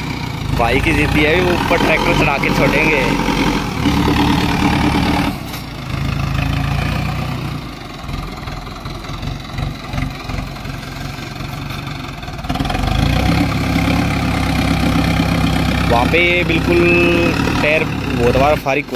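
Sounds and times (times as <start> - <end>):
tractor diesel engine under load: 0.0 - 18.9.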